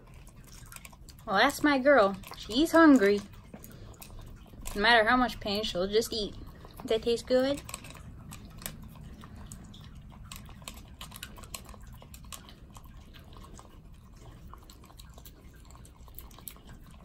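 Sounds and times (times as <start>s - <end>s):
dog chewing kibble: 0.0s - 17.0s.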